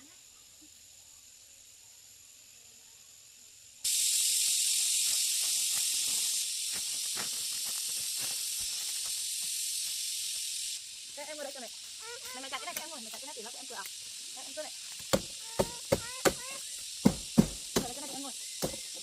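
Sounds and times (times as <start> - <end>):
loud steady high hiss: 0.0 - 19.0.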